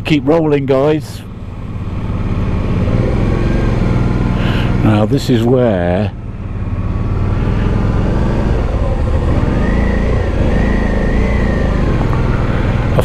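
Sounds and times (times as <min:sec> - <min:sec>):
motorcycle engine: 0:00.0 - 0:13.0
high wavering whine: 0:00.2 - 0:13.0.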